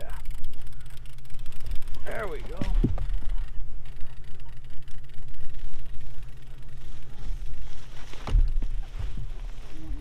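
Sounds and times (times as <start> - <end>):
outboard motor humming: 0.0 - 10.0.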